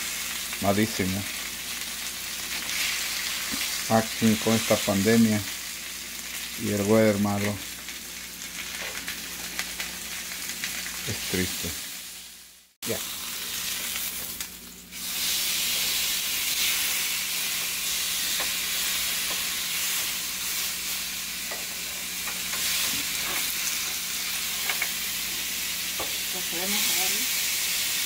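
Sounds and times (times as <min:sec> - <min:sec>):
steaks sizzling on grill pan: 0:00.0 - 0:28.0.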